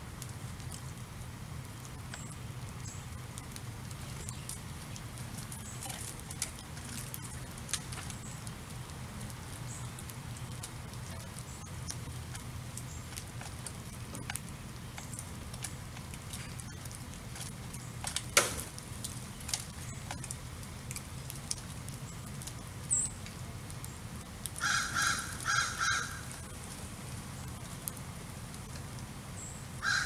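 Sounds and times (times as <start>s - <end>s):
birds pecking seed ticks: 0.0s - 30.0s
steady low hum: 0.0s - 30.0s.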